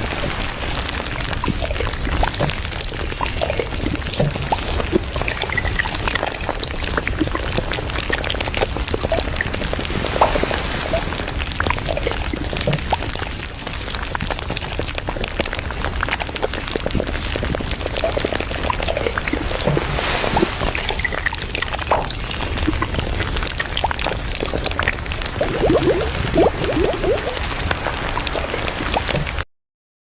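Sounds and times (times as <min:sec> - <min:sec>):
water washing: 0:00.0 - 0:14.9, 0:15.8 - 0:29.4
water drips and plops: 0:00.0 - 0:29.4.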